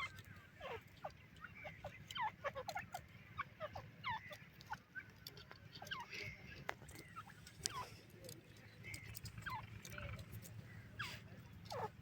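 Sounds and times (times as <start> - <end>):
francolin calling: 0.0 - 12.0.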